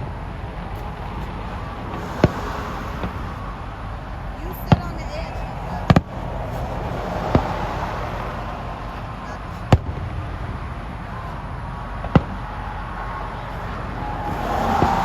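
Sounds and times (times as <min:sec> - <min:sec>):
background hubbub: 0:00.0 - 0:15.0.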